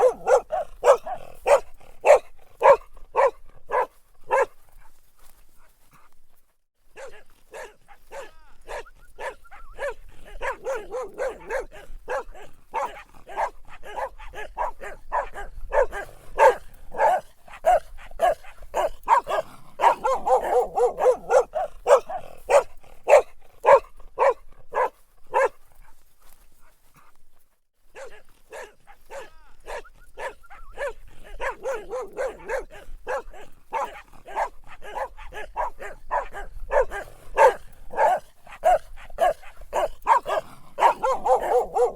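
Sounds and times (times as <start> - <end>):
dog barking: 0.0 - 5.0, 6.9 - 26.0, 27.9 - 41.9.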